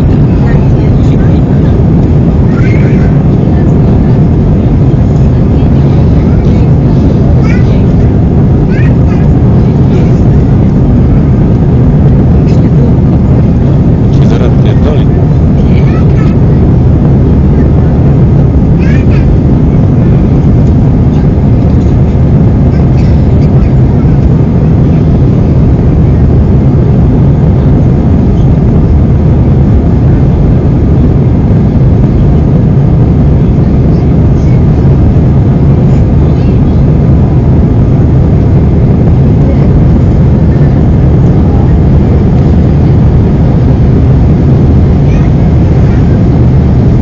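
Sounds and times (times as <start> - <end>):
jet airliner cabin roar: 0.0 - 47.0.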